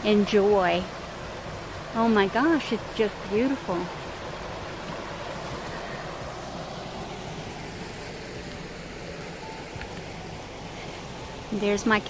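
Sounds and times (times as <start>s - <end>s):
creek water rushing over boulders: 0.0s - 12.0s.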